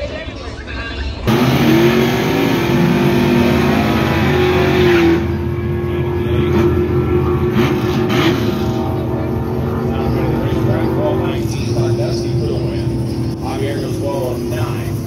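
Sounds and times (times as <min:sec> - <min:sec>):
truck engine at high revs: 0:01.2 - 0:15.0.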